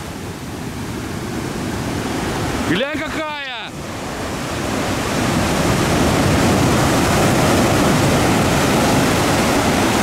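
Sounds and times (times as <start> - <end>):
ocean surf breaking on rocks: 0.0 - 10.0.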